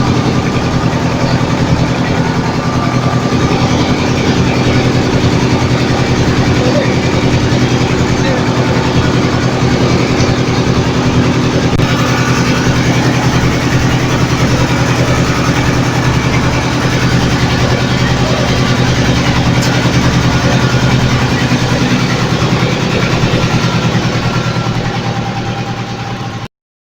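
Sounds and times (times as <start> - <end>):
boat engine pulsing: 0.0 - 26.5.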